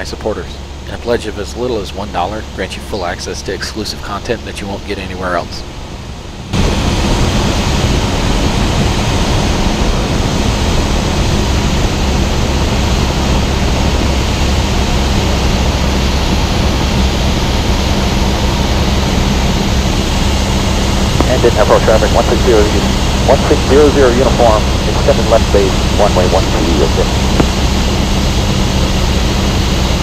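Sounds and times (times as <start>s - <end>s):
light aircraft engine drone: 0.0s - 30.0s.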